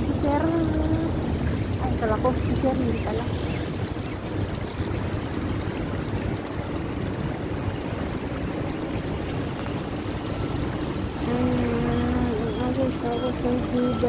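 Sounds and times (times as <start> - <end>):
fountain water rushing: 0.0 - 14.0.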